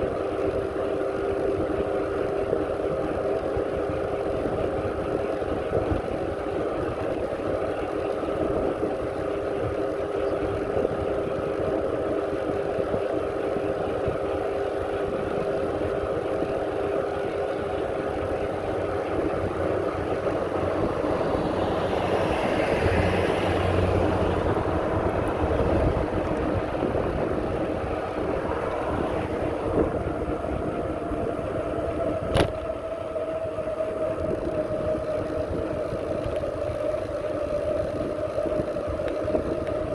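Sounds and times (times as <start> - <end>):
bicycle riding rumble and whine: 0.0 - 39.9.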